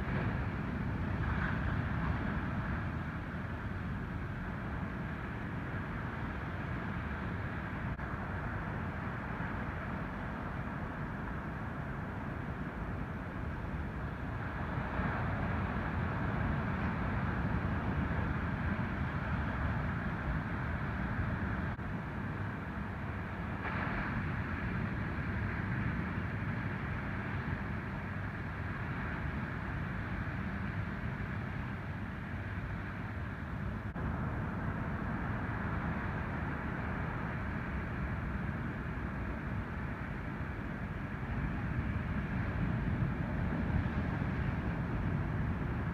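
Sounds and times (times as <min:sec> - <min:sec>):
waves breaking on a beach: 0:00.0 - 0:45.9.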